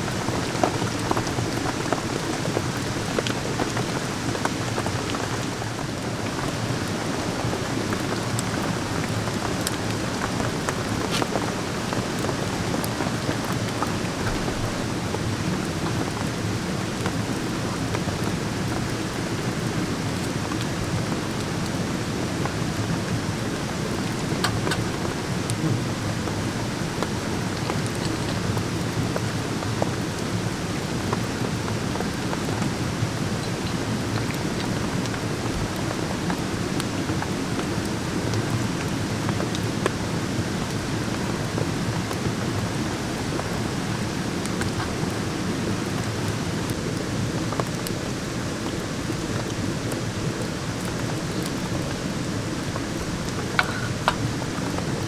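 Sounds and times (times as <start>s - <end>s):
rain drumming on a surface: 0.0s - 55.0s.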